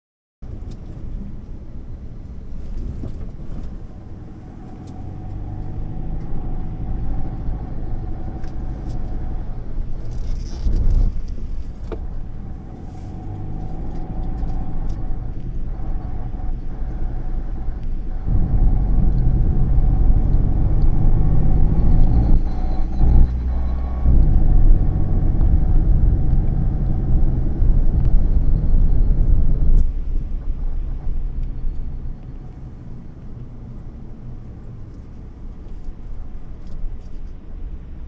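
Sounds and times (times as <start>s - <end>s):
wind buffeting microphone: 0.4s - 38.0s.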